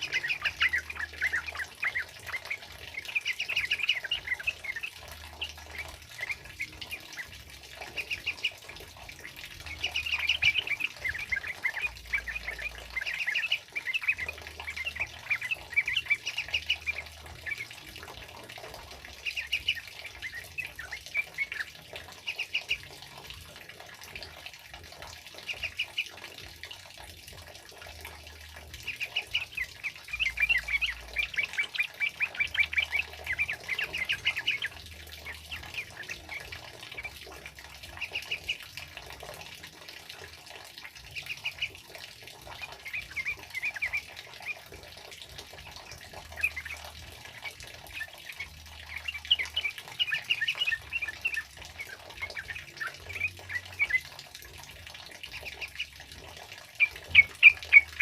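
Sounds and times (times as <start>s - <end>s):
bird chattering song: 0.0s - 23.2s, 25.3s - 26.2s, 28.1s - 58.0s.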